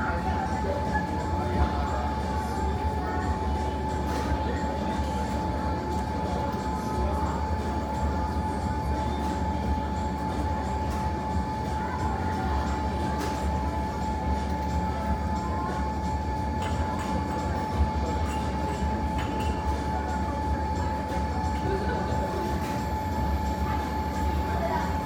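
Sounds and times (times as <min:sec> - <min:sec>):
mechanical rumble with hum: 0:00.0 - 0:25.0.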